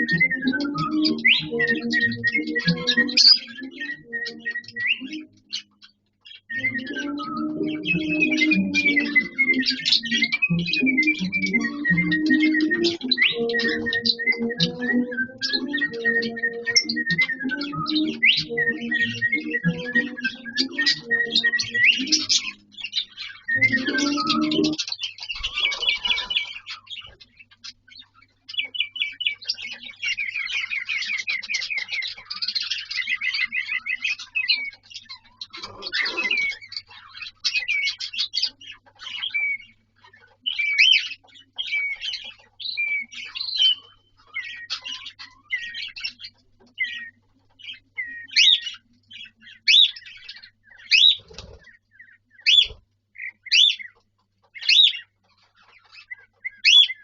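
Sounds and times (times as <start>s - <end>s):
cockatiel whistling and chattering: 0.0s - 57.0s.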